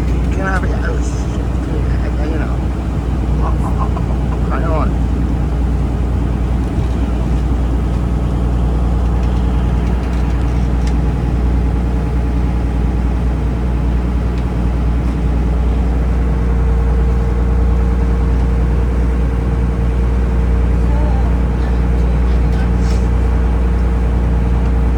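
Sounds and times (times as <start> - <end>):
boat engine low drone: 0.0 - 24.9
higher hum: 0.0 - 24.9.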